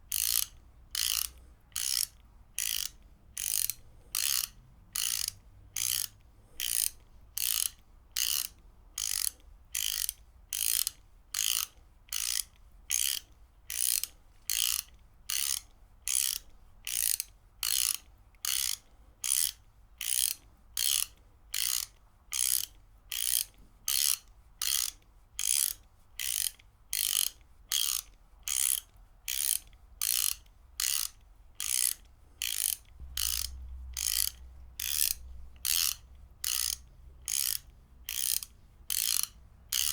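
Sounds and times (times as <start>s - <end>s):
ratchet wrench clicking: 0.1s - 39.9s.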